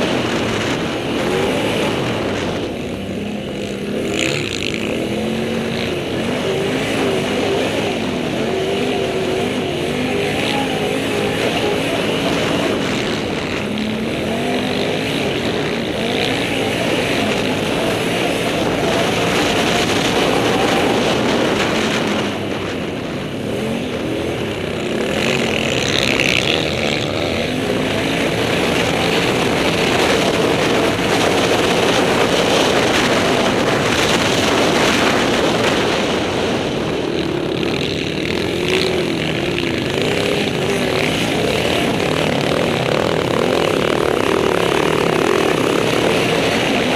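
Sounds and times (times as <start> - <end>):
quad engine revving: 0.0 - 46.9.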